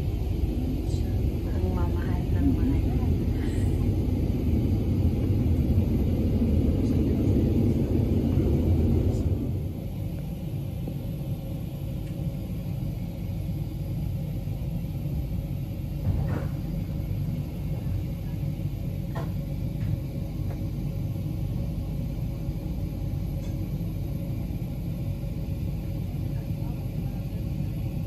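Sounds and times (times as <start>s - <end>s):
train rumble from inside carriage: 0.0s - 28.0s.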